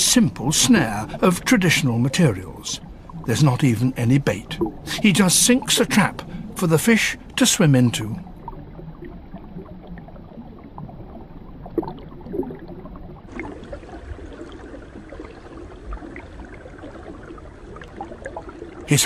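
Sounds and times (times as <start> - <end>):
water gurgling and lapping: 0.0 - 19.0.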